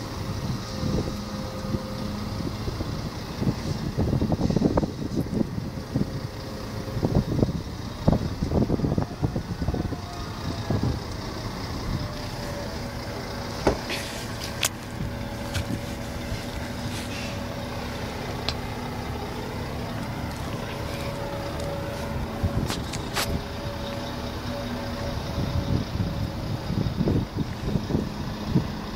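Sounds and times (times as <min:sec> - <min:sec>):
crane diesel engine drone: 0:00.0 - 0:28.9
wind buffeting microphone: 0:00.0 - 0:28.9.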